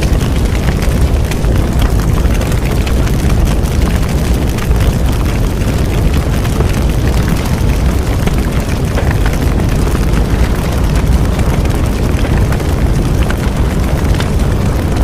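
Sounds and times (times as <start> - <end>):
bonfire flames roaring: 0.0 - 15.0
burning wood crackling and popping: 0.0 - 15.0.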